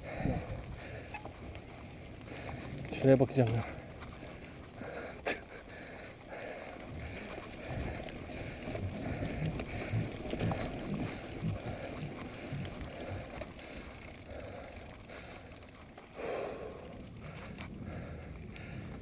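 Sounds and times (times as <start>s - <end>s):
bike rattling over bumps: 0.0s - 19.0s
bike tyres rolling on dirt: 0.0s - 19.0s.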